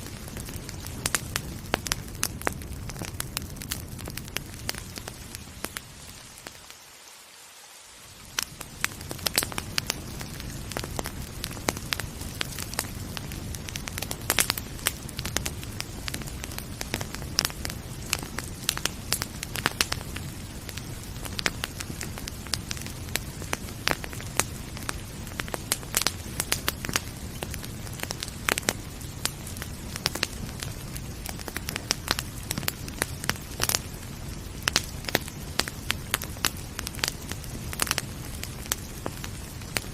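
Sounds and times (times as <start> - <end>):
wood fire crackling and popping: 0.0 - 6.8, 8.0 - 39.9
rain hiss: 0.0 - 39.9.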